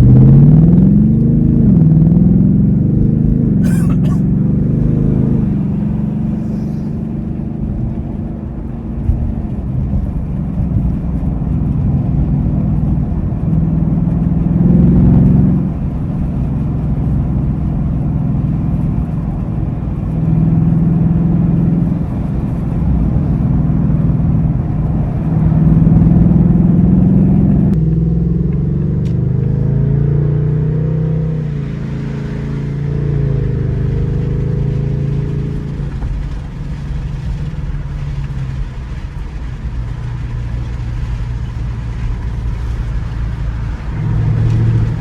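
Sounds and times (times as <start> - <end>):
car engine and exhaust under throttle: 0.0 - 45.0.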